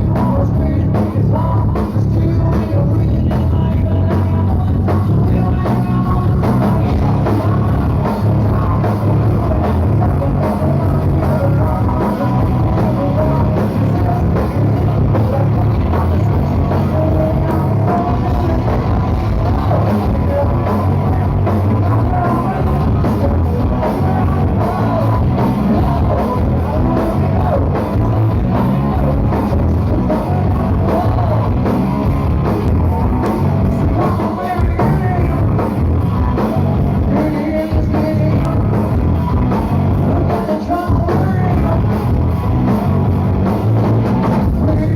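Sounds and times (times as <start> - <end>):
person singing: 0.0 - 43.0, 44.1 - 44.9
rock band playing: 0.0 - 44.9.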